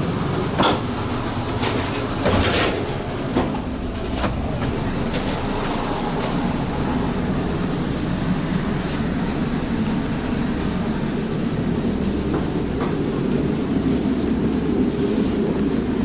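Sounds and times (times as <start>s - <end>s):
train rumbling in motion: 0.0s - 16.0s.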